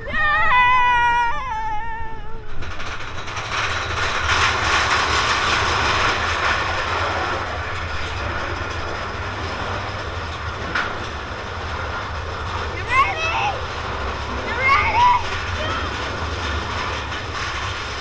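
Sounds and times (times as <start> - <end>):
roller coaster wheels rumbling on rail: 0.0 - 18.0.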